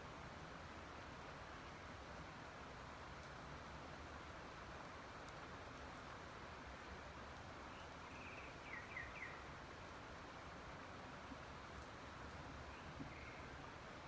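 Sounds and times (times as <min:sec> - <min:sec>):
faint rain hiss: 0:00.0 - 0:14.0.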